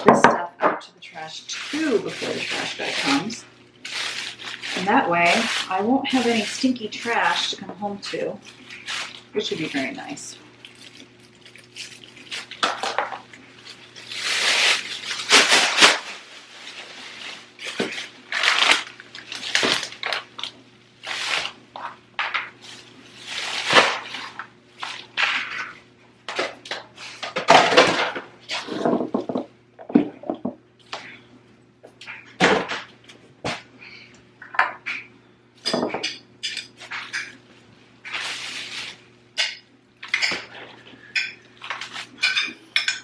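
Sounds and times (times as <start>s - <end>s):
food packaging clattering and rustling: 1.1s - 30.5s, 35.6s - 43.0s.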